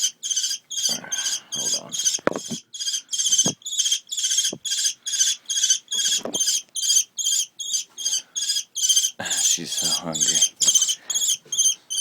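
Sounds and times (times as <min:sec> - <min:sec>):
young bird begging calls: 0:00.0 - 0:12.0.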